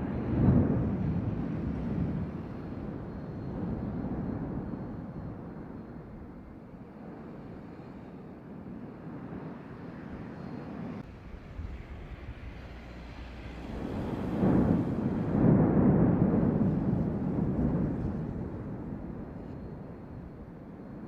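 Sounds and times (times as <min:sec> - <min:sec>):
volcanic eruption rumble: 0:00.0 - 0:21.0.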